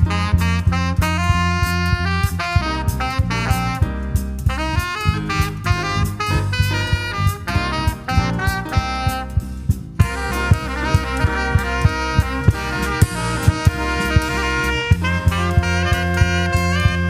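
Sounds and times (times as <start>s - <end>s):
drum kit beat: 0.0s - 17.0s
tenor saxophone jazz solo: 0.0s - 17.0s.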